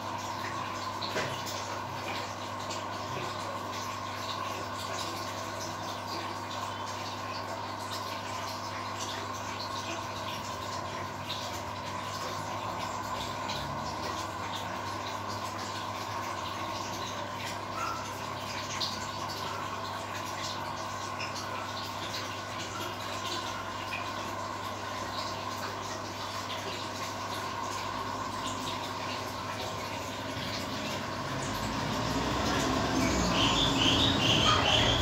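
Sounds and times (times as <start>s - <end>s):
aquarium pump humming: 0.0s - 35.0s
bubbling trickling water: 0.0s - 35.0s.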